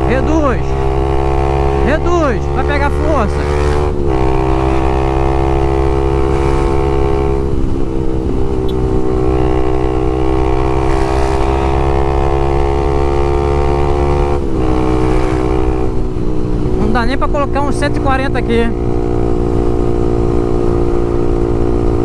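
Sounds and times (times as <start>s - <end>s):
motorcycle engine pulling hard: 0.0s - 22.0s.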